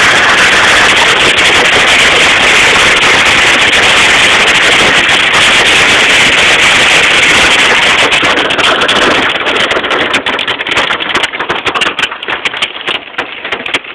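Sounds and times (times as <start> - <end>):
hail rattling on hard surface: 0.0 - 13.9.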